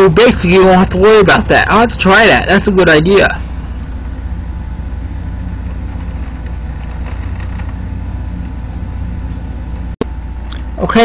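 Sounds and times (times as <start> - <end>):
faint continuous hum: 0.0 - 11.0
low rumbling background noise: 0.0 - 11.0.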